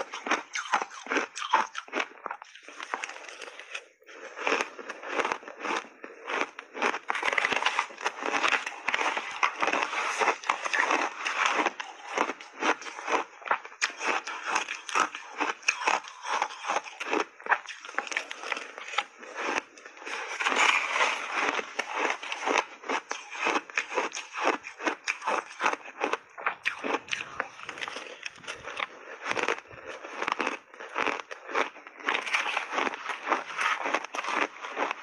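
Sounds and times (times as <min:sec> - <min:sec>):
chewing crunchy ice: 0:00.0 - 0:35.0.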